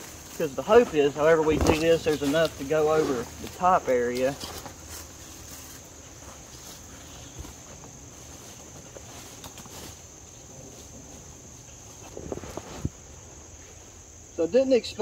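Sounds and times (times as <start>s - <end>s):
faint rustling: 0.0s - 14.1s
insects trilling: 0.0s - 15.0s.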